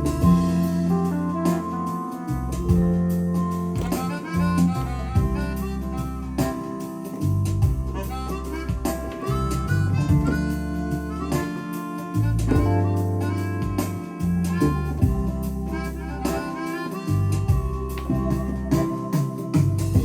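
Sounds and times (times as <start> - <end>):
bass notes: 0.0 - 20.0
drum hits: 0.0 - 20.0
keyboard melody line: 0.0 - 20.0.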